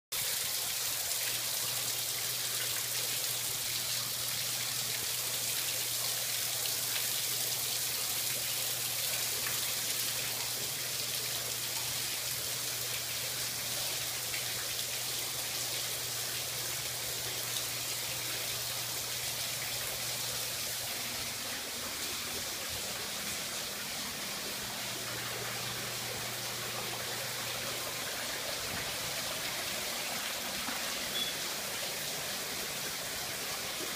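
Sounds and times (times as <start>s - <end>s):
water rushing and trickling: 0.1s - 33.9s.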